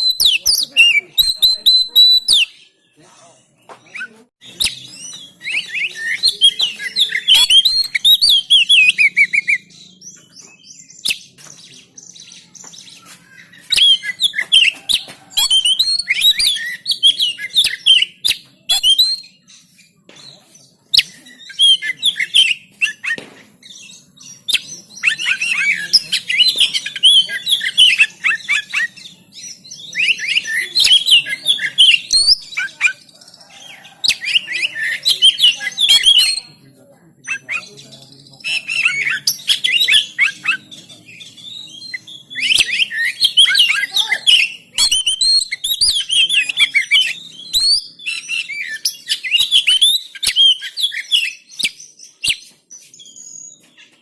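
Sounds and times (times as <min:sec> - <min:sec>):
bird singing chirps and whistles: 0:00.0 - 0:03.0, 0:03.7 - 0:36.6, 0:37.2 - 0:54.0.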